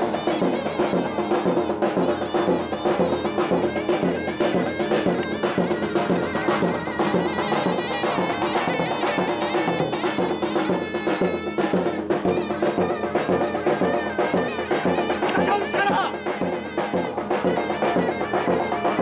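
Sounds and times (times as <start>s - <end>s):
davul drum beat: 0.0s - 19.0s
reedy zurna melody: 0.0s - 19.0s.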